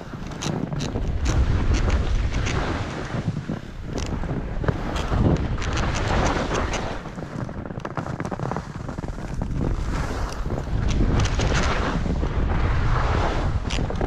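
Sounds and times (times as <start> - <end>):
skis scraping on snow: 0.0 - 14.0
wind on microphone: 0.0 - 14.0.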